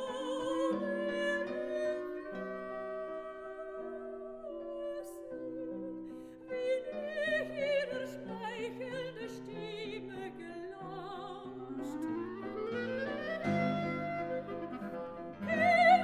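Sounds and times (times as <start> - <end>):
classical melody with vibrato: 0.0 - 16.0.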